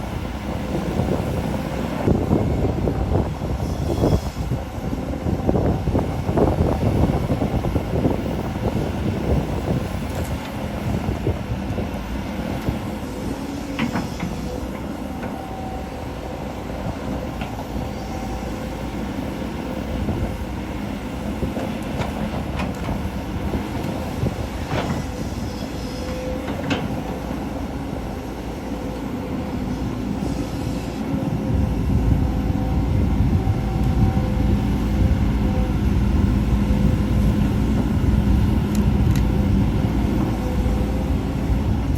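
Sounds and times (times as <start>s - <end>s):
excavator engine and hydraulics: 0.0s - 41.9s.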